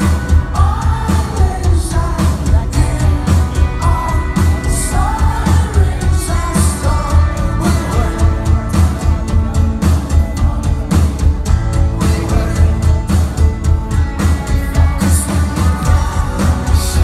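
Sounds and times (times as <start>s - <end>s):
driving drum beat: 0.0s - 17.0s
lead singer singing: 0.0s - 17.0s
rock band playing live: 0.0s - 17.0s.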